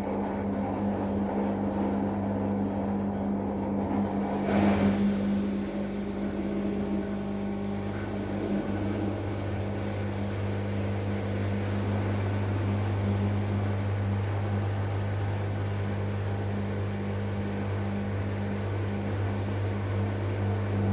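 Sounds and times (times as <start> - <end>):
washing machine drain pump hum: 0.0 - 20.9.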